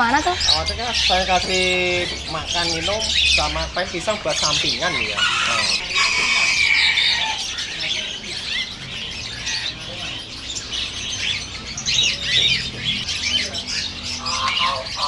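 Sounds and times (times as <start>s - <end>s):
songbirds chirping and twittering: 0.0s - 15.0s.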